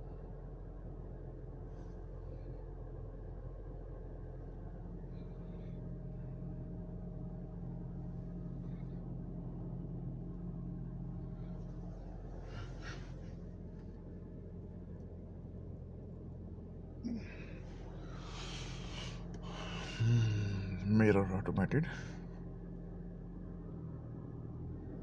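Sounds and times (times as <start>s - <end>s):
car engine low hum: 0.0s - 25.0s.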